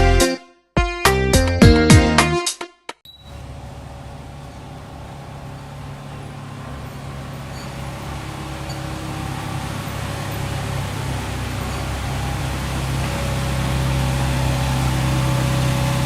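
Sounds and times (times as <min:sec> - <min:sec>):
vehicle engine humming: 0:03.1 - 0:16.0.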